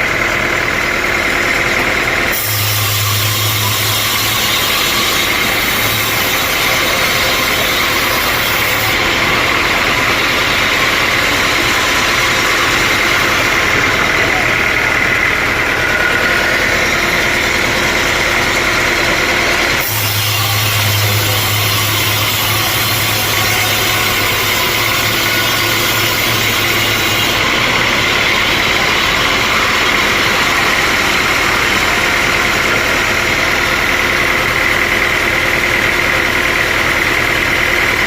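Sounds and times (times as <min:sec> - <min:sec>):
sawmill machinery running: 0:00.0 - 0:38.0.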